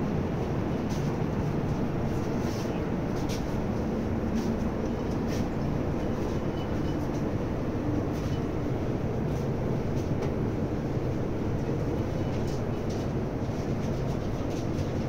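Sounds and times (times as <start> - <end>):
ship background rumble and hiss: 0.0 - 15.0.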